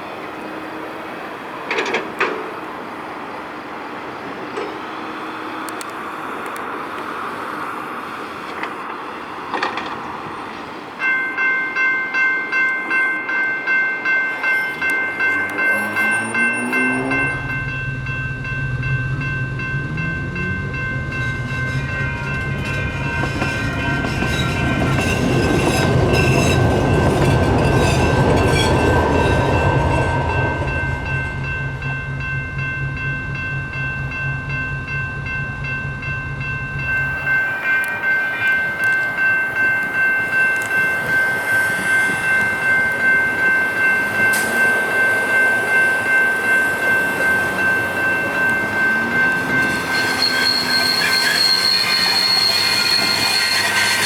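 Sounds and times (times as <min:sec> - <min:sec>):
railroad crossing bell ringing: 0:00.0 - 0:54.0
train rumbling with clicking wheels: 0:00.0 - 0:54.0.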